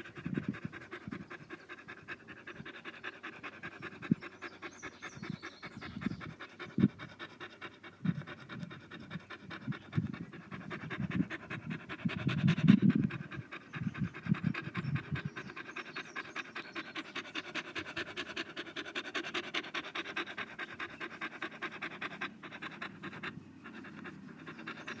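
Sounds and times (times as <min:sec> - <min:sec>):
dog panting: 0:00.0 - 0:25.0.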